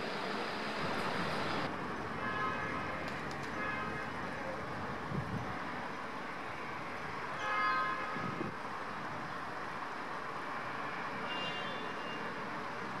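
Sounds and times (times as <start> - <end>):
city background noise: 0.0 - 13.0.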